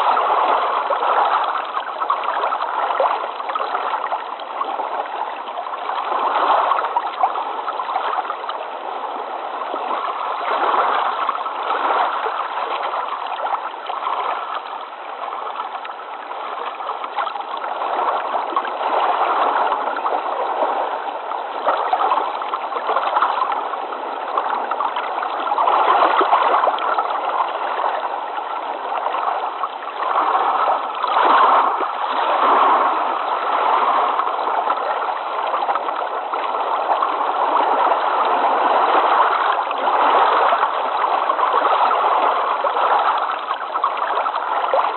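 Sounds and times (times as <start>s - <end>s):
muffled rushing water: 0.0s - 44.9s.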